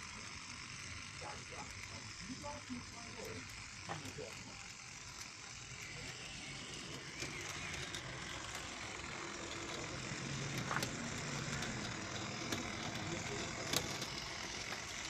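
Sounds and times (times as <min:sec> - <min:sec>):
model train motor whir: 0:00.0 - 0:15.0.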